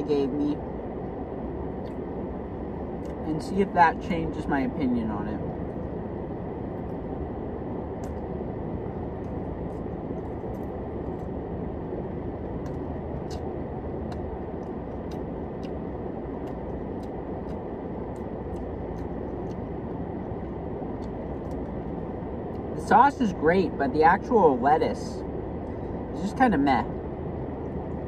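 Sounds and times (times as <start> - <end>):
low rumble inside car cabin: 0.0 - 28.0.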